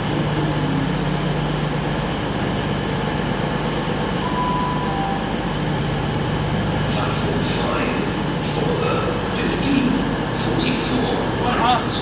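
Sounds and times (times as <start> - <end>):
diesel train idling: 0.0 - 12.0.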